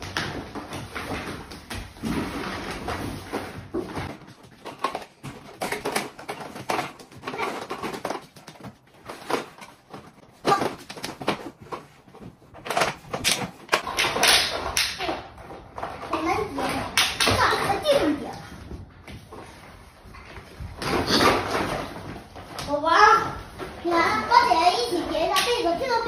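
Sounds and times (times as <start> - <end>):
plastic and fabric rustling: 0.0 - 26.0
plastic toys clattering: 0.0 - 26.0.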